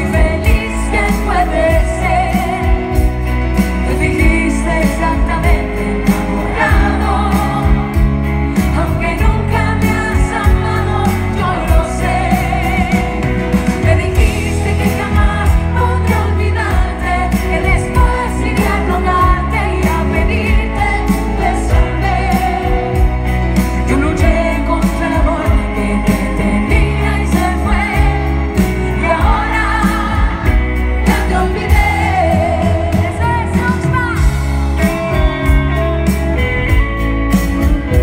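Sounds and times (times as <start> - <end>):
woman singing: 0.0 - 34.6
drums: 0.0 - 38.0
electric guitar: 0.0 - 38.0
heavy bass: 0.0 - 38.0.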